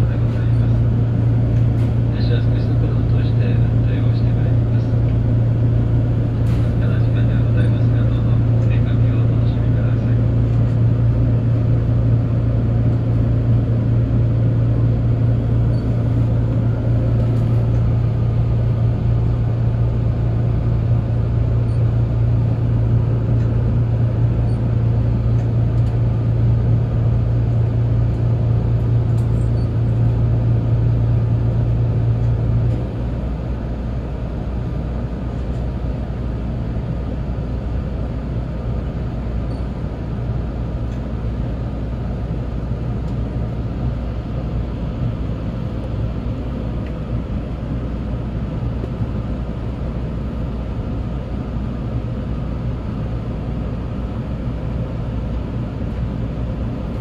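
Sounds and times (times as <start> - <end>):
steady low hum: 0.0 - 57.0
train running rumble: 0.0 - 57.0.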